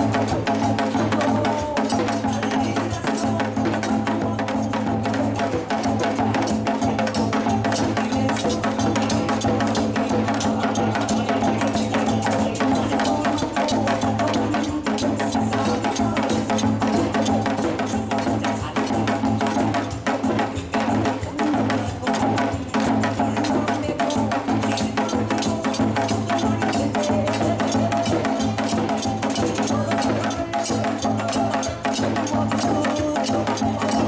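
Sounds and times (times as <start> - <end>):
fast barrel drumming: 0.0 - 34.0
music: 0.0 - 34.0.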